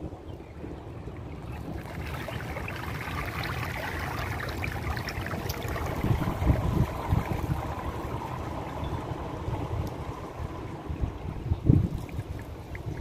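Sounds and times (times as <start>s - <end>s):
wind buffeting microphone: 0.0s - 13.0s
pool water lapping into gutter: 0.7s - 13.0s.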